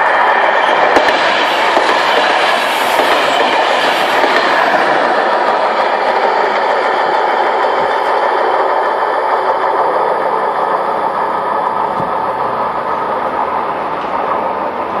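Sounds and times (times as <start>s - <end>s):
diesel train running on track: 0.0s - 15.0s.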